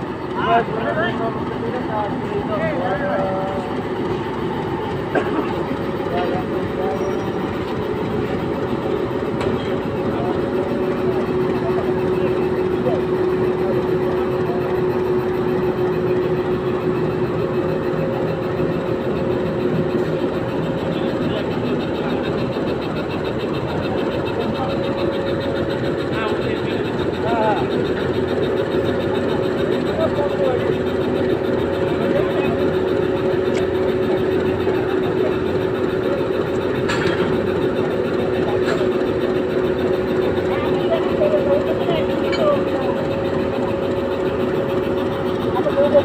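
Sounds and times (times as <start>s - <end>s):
diesel locomotive engine running: 0.0s - 46.0s
steady hum: 0.0s - 46.0s.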